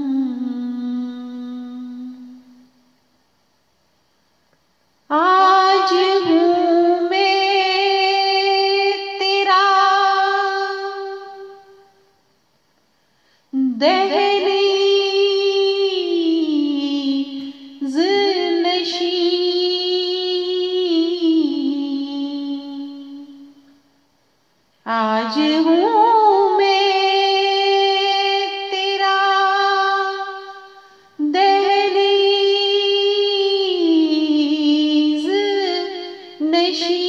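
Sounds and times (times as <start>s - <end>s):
woman singing unaccompanied: 0.0s - 2.8s, 5.1s - 12.0s, 13.5s - 23.7s, 24.8s - 37.0s.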